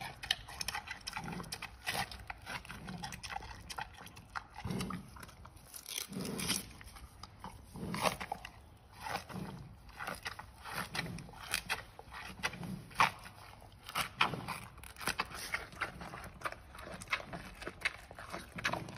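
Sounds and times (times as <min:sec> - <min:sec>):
panda chewing bamboo: 0:00.0 - 0:18.9.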